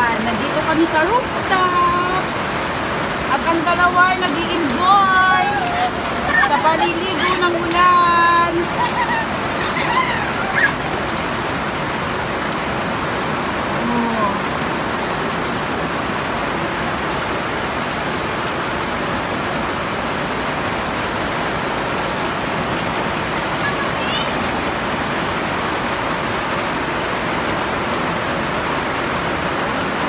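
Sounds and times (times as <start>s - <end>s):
rain splashing on rooftop: 0.0s - 30.0s.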